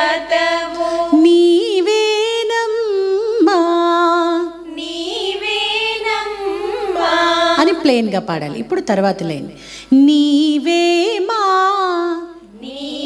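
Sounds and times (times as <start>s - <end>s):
women singing unaccompanied: 0.0s - 13.0s.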